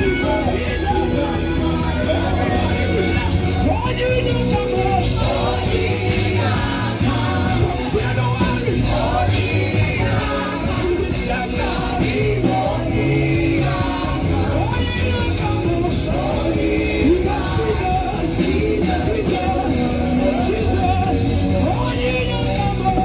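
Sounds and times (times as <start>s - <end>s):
band playing: 0.0s - 23.0s
singers and choir: 0.0s - 23.0s.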